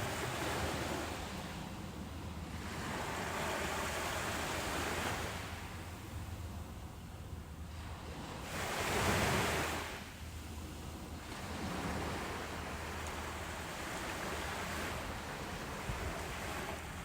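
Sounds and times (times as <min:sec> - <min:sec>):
ocean waves breaking: 0:00.0 - 0:17.0
surf hiss: 0:00.0 - 0:17.0.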